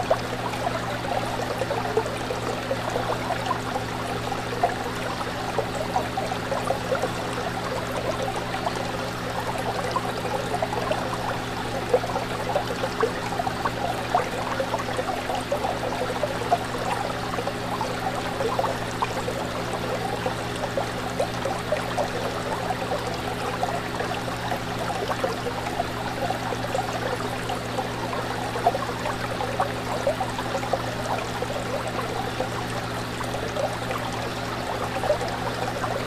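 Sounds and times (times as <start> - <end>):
aquarium water bubbling: 0.0 - 36.0.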